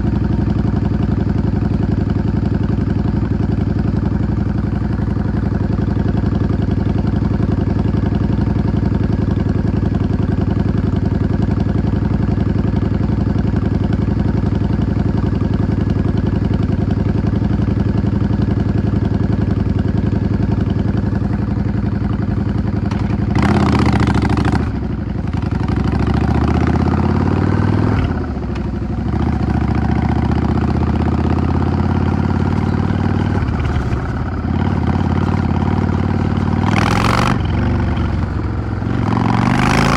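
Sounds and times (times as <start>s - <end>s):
motorcycle engine idling: 0.0s - 39.5s
motorcycle accelerating: 0.0s - 39.9s.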